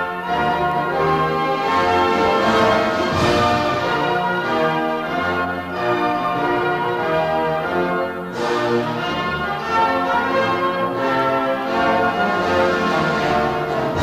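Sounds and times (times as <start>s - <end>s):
instrumental anthem music: 0.0s - 14.0s.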